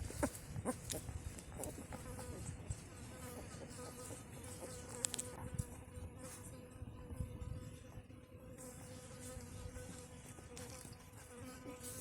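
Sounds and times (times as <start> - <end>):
flying insect buzzing: 0.0 - 12.0.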